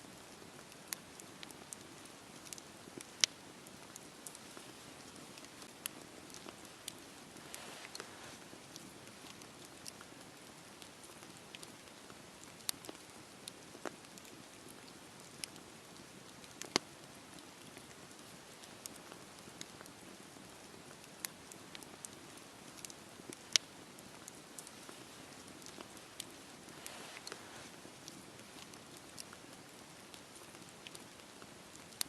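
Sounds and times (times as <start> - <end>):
burning wood crackling and popping: 0.0 - 32.0
low hiss of flames: 0.1 - 32.0.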